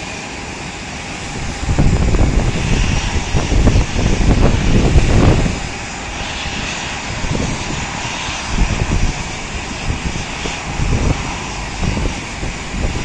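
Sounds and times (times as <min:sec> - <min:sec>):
jet engine hiss: 0:00.0 - 0:13.0
wind buffeting microphone: 0:00.0 - 0:13.0.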